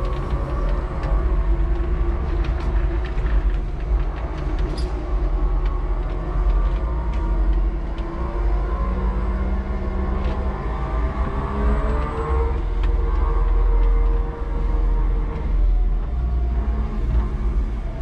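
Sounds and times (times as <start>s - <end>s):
small clicks and rattles: 0.0s - 16.2s
forklift low rumble: 0.0s - 18.0s.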